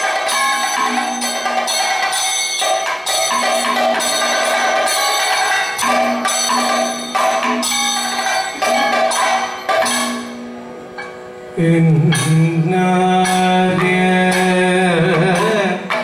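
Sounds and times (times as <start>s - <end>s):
drums beating steady rhythm: 0.0s - 16.0s
gong and cymbals ringing: 0.0s - 16.0s.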